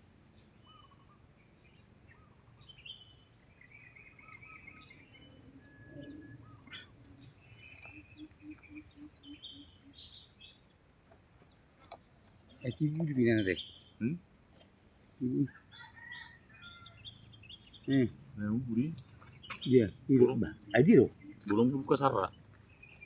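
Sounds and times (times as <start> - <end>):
high insect whine: 0.0 - 23.0
small birds chirping: 0.0 - 23.0.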